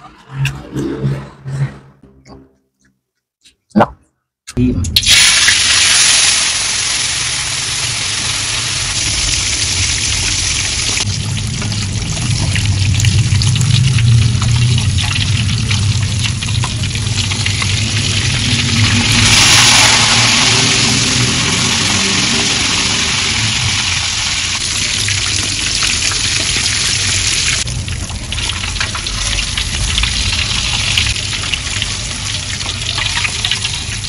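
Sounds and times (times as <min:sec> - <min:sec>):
fish deep-frying in oil: 0:05.0 - 0:34.0.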